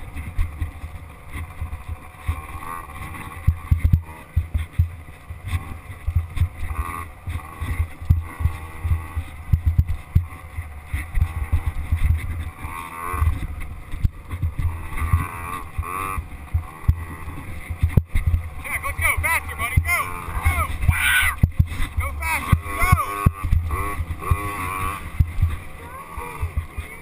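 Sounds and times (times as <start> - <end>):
bike thumps and rattles: 0.0 - 18.6, 20.7 - 25.7
dirt bike engine revving: 0.0 - 27.0.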